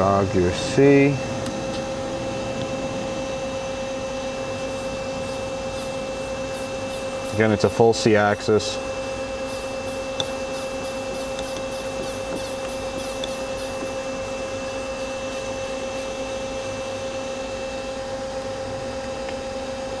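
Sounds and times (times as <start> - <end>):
high machine whine: 0.0 - 20.0
machine hum: 0.0 - 20.0.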